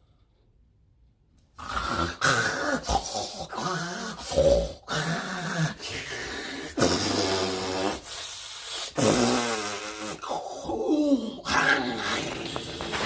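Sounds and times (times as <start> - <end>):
man snoring loudly: 1.6 - 13.0.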